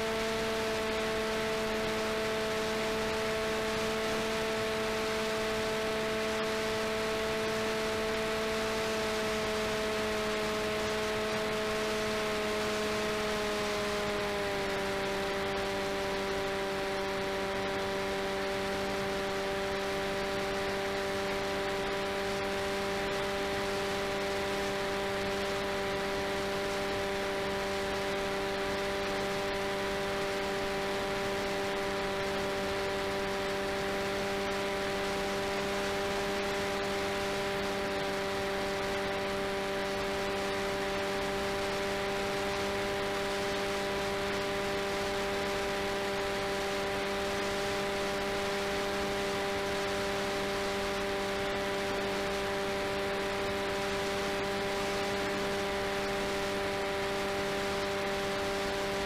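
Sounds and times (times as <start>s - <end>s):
electric motor whine: 0.0s - 59.0s.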